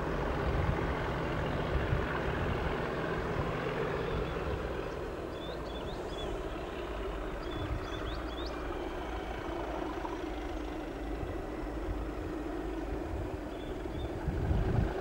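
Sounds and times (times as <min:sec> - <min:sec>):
distant diesel locomotive drone: 0:00.0 - 0:15.0.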